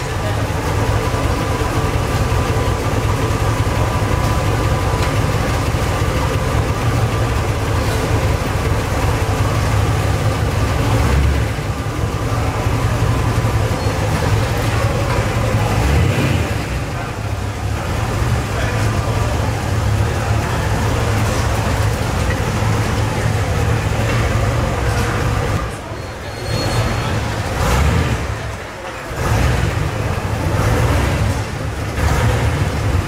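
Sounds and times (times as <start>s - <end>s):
car engine idling low rumble: 0.0s - 25.9s, 26.6s - 33.0s.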